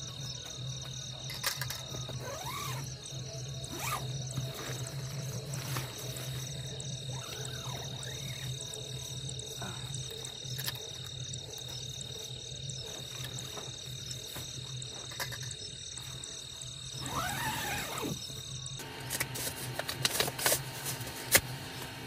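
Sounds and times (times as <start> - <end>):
frogs croaking: 0.0 - 19.0
night insects chirping: 0.0 - 22.0.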